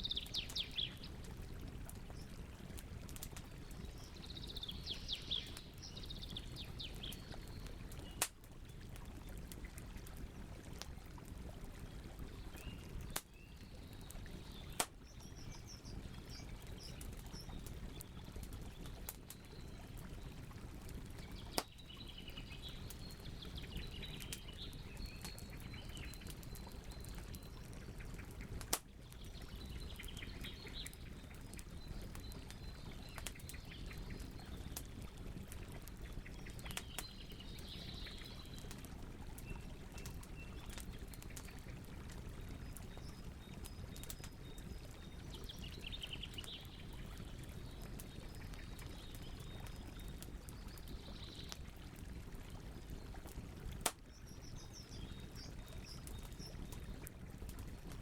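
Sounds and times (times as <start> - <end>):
small birds chirping: 0.0 - 8.3, 11.9 - 51.7, 54.1 - 57.0
campfire crackling: 0.0 - 58.0
fire popping: 0.1 - 58.0.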